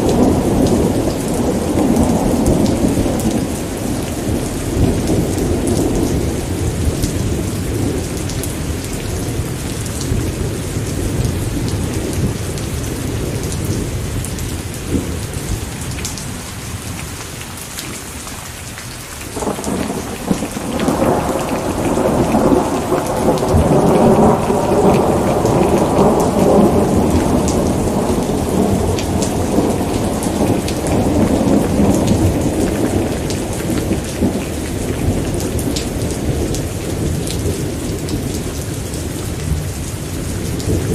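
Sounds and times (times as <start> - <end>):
rolling thunder: 0.0 - 16.3, 19.3 - 40.9
heavy rain: 0.0 - 40.9.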